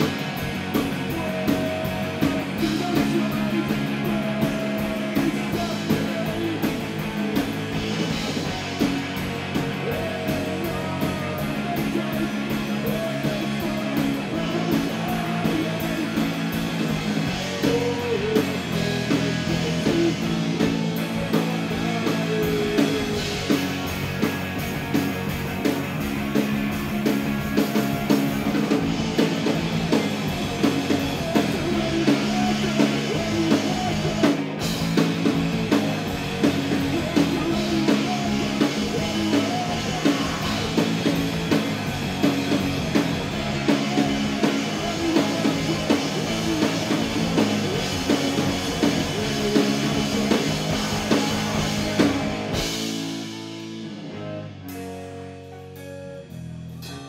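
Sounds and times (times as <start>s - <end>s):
drums and cymbals: 0.0s - 54.0s
rock band playing: 0.0s - 57.0s.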